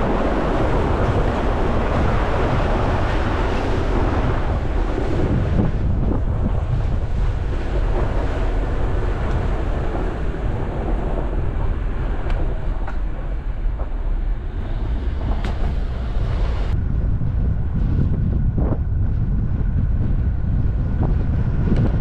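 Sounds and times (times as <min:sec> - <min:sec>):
vehicle engine rumble: 0:00.0 - 0:22.0
wind buffeting microphone: 0:00.0 - 0:22.0.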